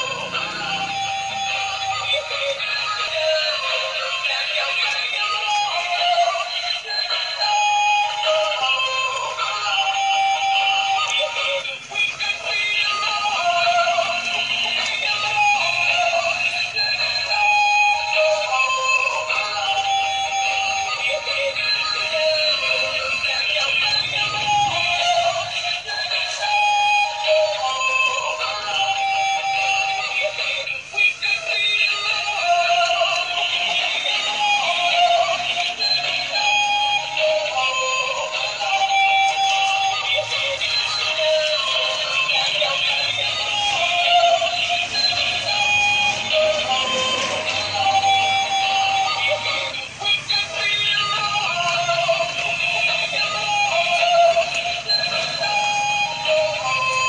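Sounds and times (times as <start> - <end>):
toy song through tinny speaker: 0.0 - 57.0.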